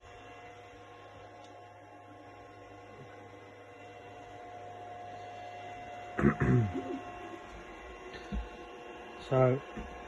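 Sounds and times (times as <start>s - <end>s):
faint whining tones: 0.0s - 10.0s.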